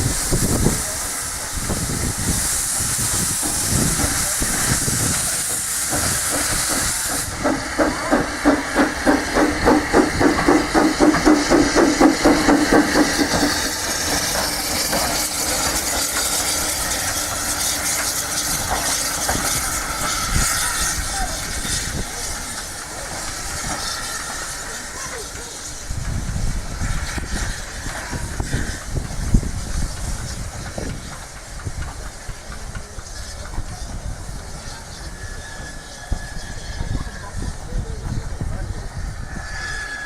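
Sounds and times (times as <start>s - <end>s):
steam engine beats: 0.0s - 40.0s
steam hissing: 0.0s - 40.0s.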